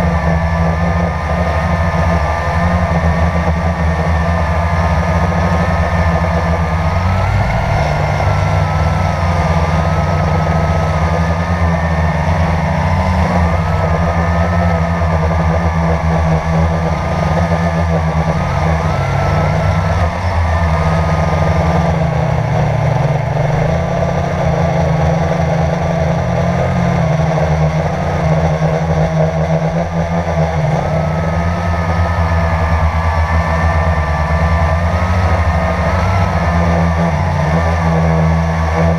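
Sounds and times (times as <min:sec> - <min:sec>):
drone motors and propellers buzzing: 0:00.0 - 0:38.9.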